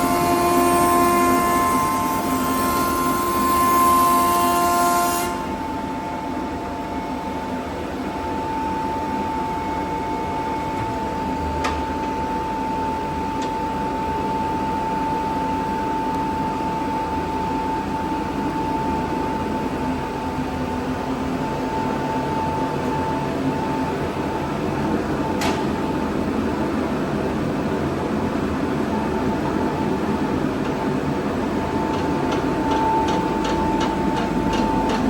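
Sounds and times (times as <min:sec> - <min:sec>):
planer machine hiss and whine: 0:00.0 - 0:35.0.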